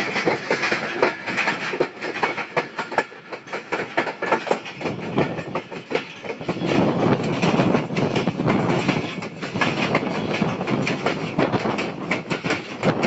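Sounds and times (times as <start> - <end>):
heavy train rumble: 0.0 - 13.0
train wheels clattering over rail joints: 0.0 - 13.0.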